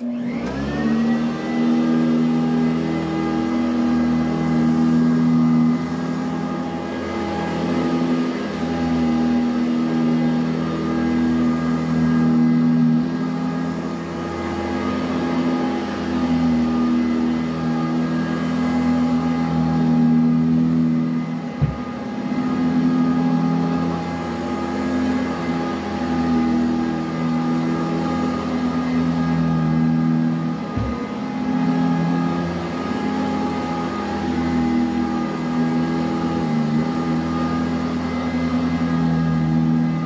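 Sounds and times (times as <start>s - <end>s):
vacuum cleaner on carpet: 0.0s - 40.0s.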